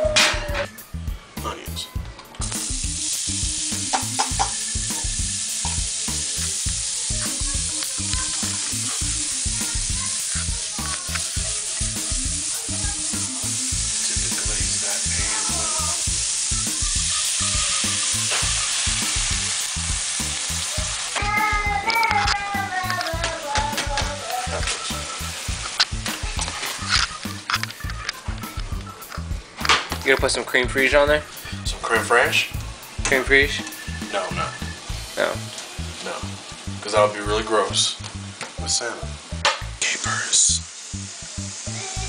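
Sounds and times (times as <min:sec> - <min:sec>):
onions sizzling in a skillet: 0:00.0 - 0:42.0.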